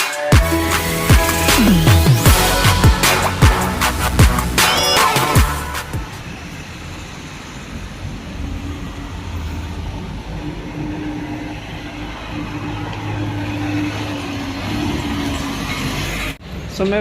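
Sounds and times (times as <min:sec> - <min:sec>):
rush of street traffic: 0:00.5 - 0:17.0.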